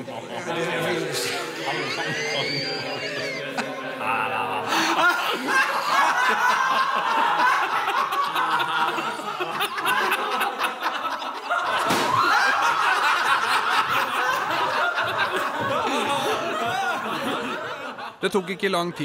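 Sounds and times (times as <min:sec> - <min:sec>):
group of people laughing: 0:00.0 - 0:19.0.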